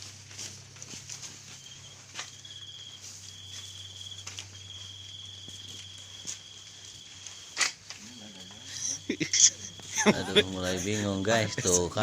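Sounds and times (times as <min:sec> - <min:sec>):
cricket trilling: 0:01.3 - 0:12.0.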